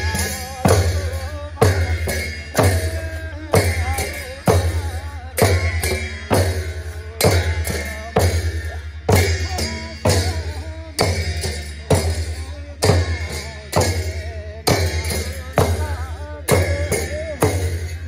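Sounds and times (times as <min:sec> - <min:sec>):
frame drums beating: 0:00.0 - 0:18.0
person chanting: 0:00.0 - 0:18.0.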